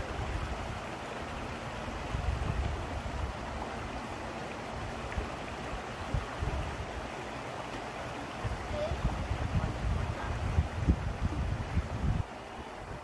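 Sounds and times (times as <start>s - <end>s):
stream water running over rocks: 0.0s - 13.0s.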